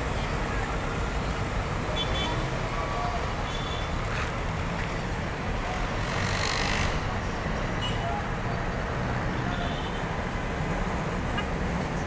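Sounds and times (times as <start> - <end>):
heavy traffic rumble: 0.0 - 12.0.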